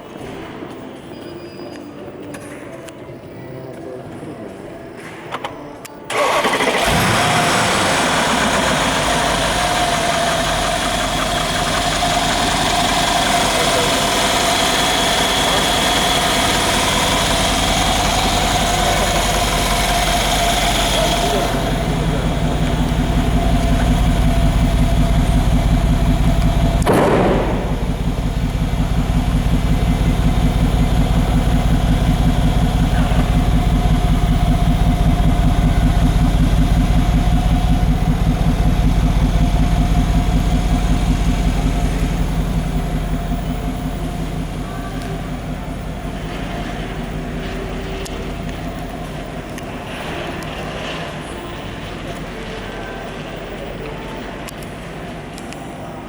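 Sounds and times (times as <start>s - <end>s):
car engine idling: 6.1s - 55.1s.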